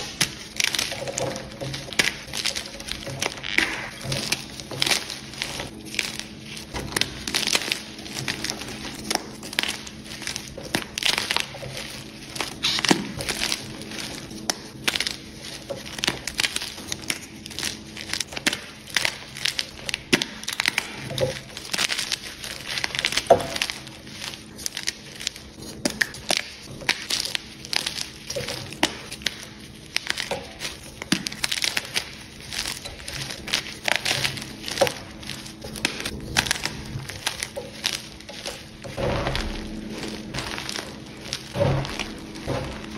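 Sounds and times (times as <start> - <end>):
chalk crunching by hand: 0.0 - 42.9.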